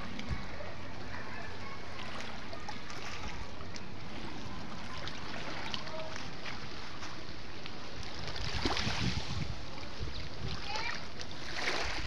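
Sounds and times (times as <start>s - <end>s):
wind rumble on microphone: 0.0s - 5.7s, 7.6s - 12.0s
seawater lapping among rocks: 0.0s - 12.0s.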